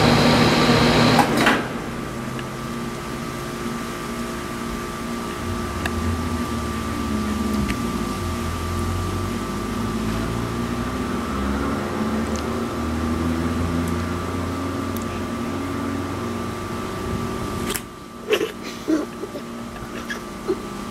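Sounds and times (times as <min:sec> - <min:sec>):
steady mechanical hum: 0:00.0 - 0:20.9.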